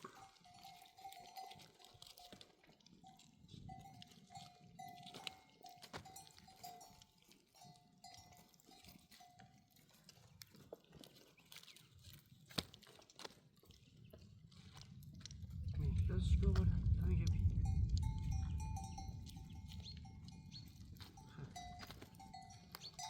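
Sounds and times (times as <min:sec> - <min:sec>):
faint livestock bells ringing: 0:00.0 - 0:12.2, 0:14.6 - 0:23.0.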